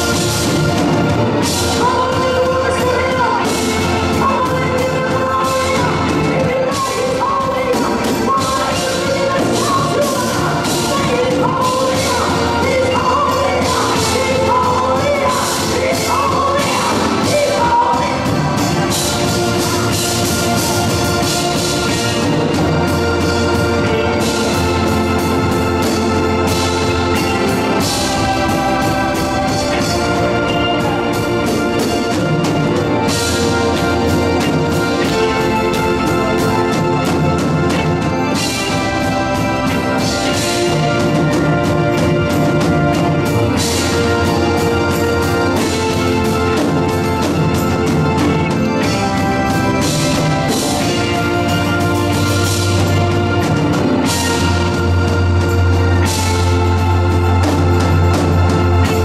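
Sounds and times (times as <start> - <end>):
organ chords: 0.0 - 59.0.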